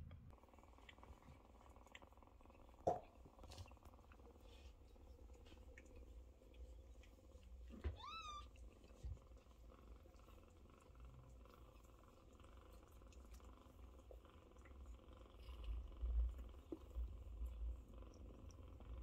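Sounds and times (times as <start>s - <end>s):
cats purring: 0.1s - 19.0s.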